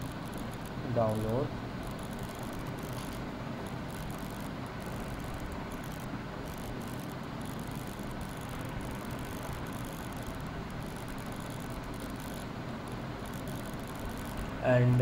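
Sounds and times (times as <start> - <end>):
low hum: 0.0 - 15.0
steady microphone hiss: 0.0 - 15.0.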